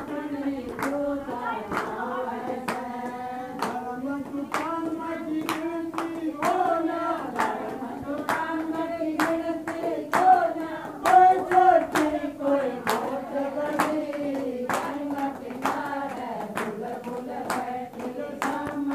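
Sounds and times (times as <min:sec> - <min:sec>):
hand claps: 0:00.0 - 0:18.9
women singing together: 0:00.0 - 0:18.9.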